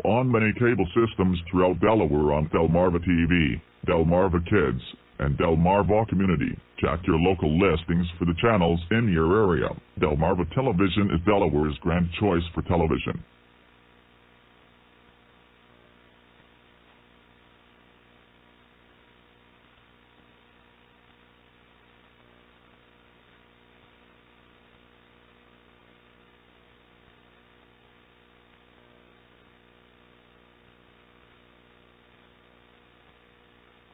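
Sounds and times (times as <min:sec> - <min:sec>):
faint mains hum: 0:00.0 - 0:33.9.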